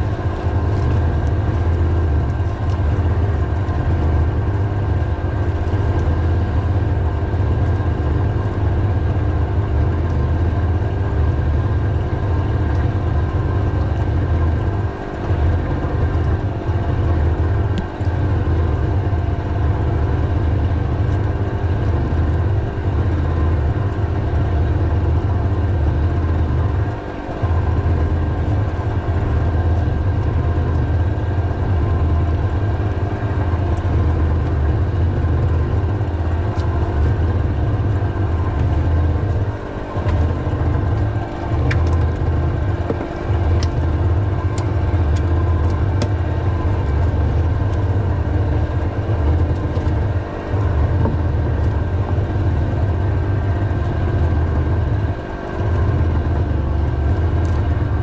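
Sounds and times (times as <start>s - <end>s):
small engine humming: 0.0s - 58.0s.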